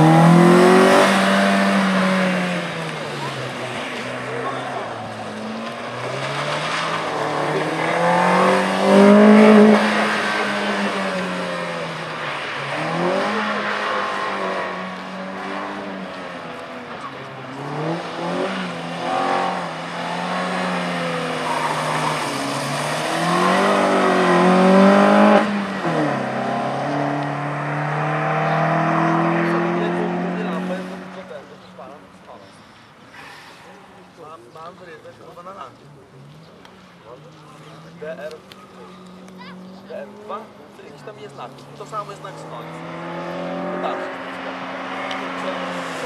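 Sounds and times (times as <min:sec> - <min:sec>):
rally car engine revving: 0:00.0 - 0:31.7, 0:36.2 - 0:46.0.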